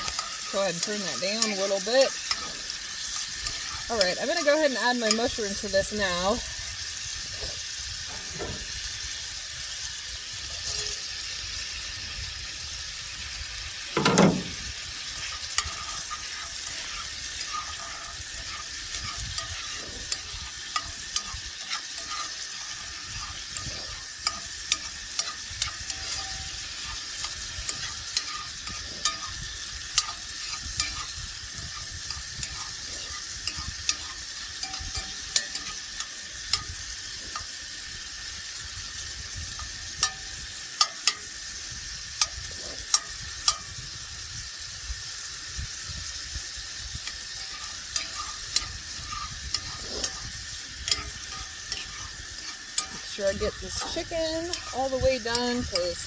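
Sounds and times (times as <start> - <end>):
spoon scraping a pan: 0.0 - 8.8, 10.4 - 12.2, 13.8 - 43.8, 45.7 - 56.0
food sizzling in a pan: 0.0 - 56.0.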